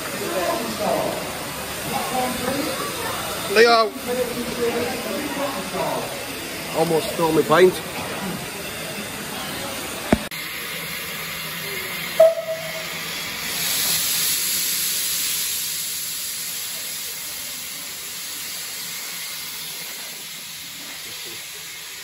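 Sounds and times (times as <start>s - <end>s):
steam locomotive hissing steam: 0.0s - 22.0s.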